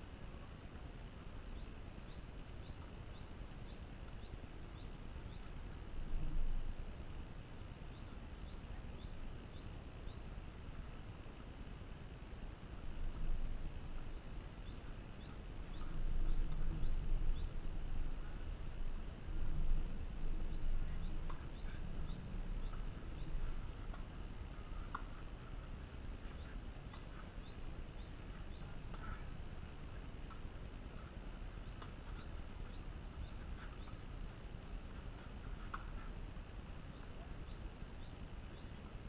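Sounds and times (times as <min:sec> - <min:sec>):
wind rumbling on microphone: 0:00.0 - 0:39.0.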